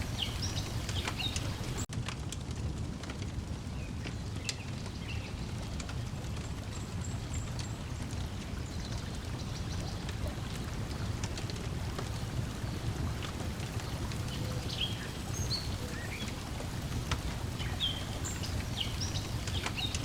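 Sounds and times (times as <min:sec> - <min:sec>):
lake water lapping: 0:00.0 - 0:01.9, 0:05.6 - 0:20.0
wood fire crackling: 0:00.0 - 0:20.0.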